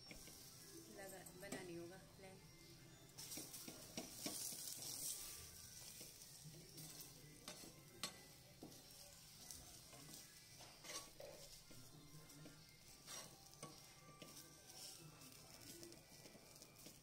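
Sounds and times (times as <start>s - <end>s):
flatbread sizzling on griddle: 0.0s - 17.0s
ladle scraping griddle: 3.2s - 17.0s.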